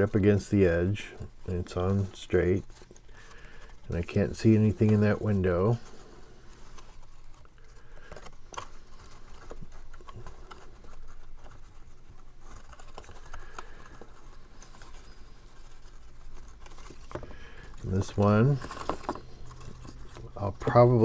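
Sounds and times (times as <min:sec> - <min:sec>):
cardstock rustling and scraping: 0:00.0 - 0:21.0.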